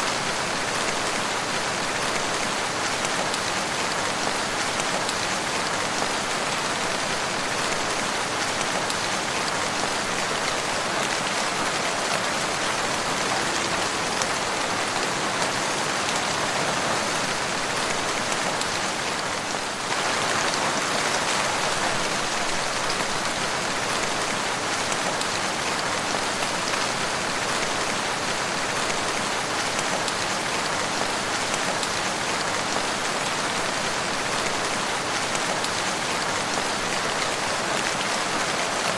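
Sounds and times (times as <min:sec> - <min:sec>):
steady rain patter: 0:00.0 - 0:38.9.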